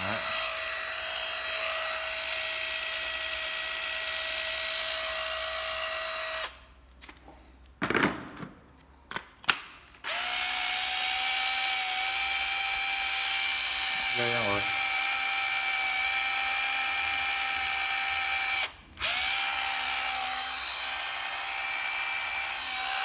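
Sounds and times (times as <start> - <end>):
impact wrench motor whine: 0.0 - 6.6, 10.0 - 23.0.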